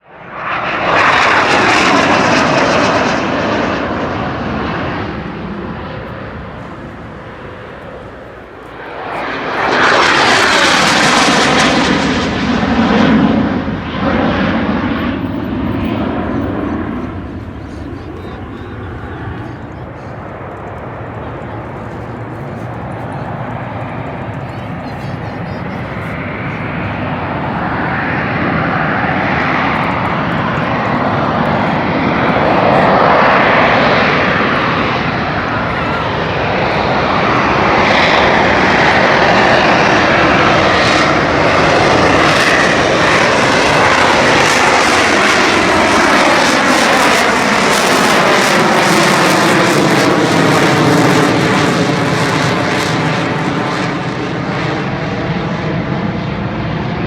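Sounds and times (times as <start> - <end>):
airplane flying past: 0.0 - 57.0.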